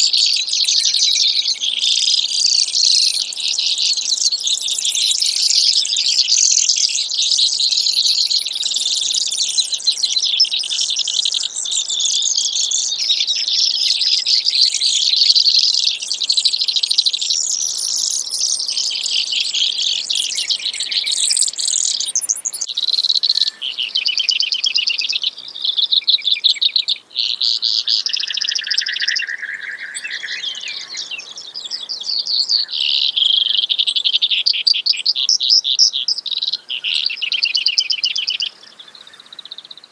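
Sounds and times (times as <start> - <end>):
sparrow singing trills: 0.0 - 39.9.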